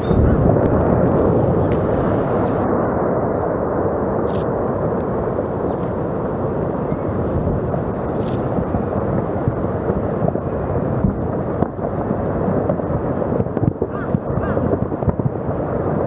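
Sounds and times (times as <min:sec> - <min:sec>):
volcano eruption rumble: 0:00.0 - 0:16.0.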